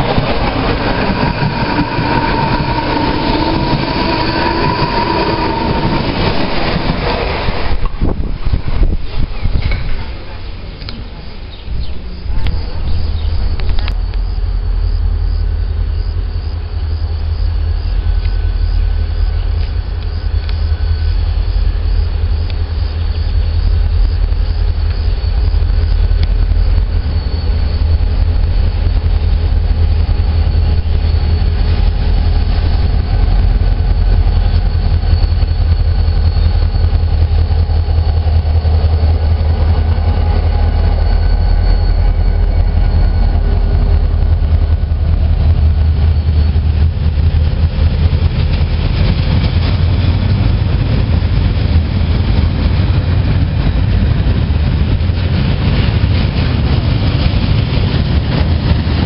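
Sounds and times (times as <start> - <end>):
diesel locomotive rumble: 0.0 - 59.0
train wheels rolling on rails: 0.0 - 59.0.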